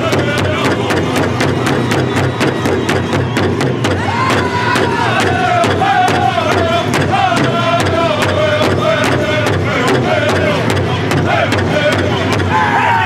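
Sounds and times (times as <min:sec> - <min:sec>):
high-pitched group singing: 0:00.0 - 0:01.9, 0:04.0 - 0:13.0
drum beating steady pulse: 0:00.0 - 0:13.0.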